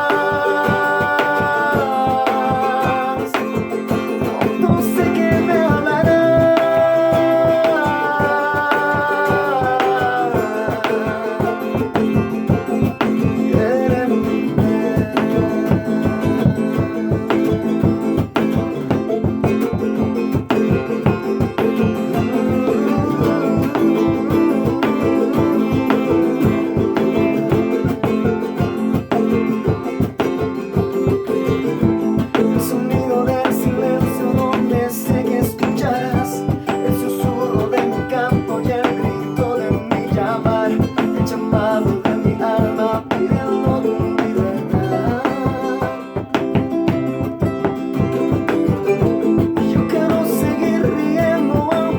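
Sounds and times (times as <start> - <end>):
guitar music: 0.0 - 51.9.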